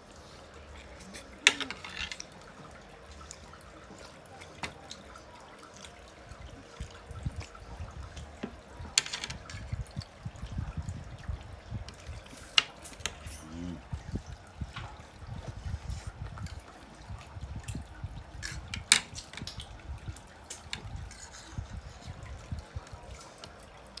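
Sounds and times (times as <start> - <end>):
wet eating sounds: 0.0 - 24.0.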